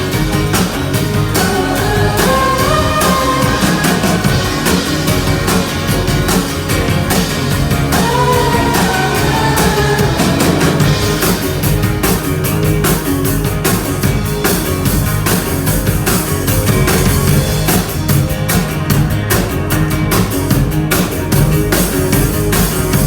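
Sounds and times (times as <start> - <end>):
drum beat: 0.0 - 23.0
rock band playing: 0.0 - 23.0.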